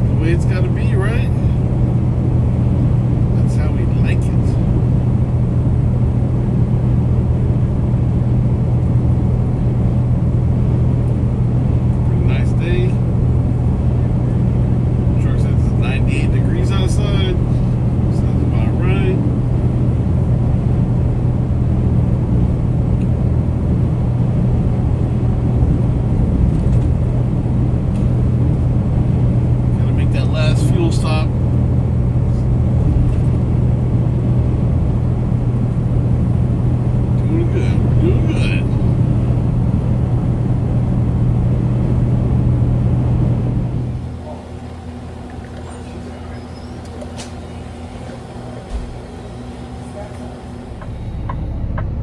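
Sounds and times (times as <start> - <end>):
constant low hum: 0.0 - 52.0
diesel truck engine droning: 0.0 - 52.0
road noise: 0.0 - 52.0.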